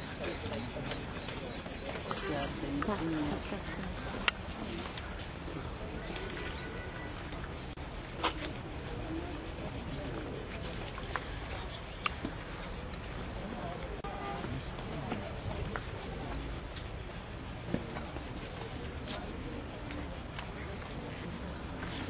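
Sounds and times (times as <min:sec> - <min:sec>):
insects chorus pulsing: 0:00.0 - 0:22.0.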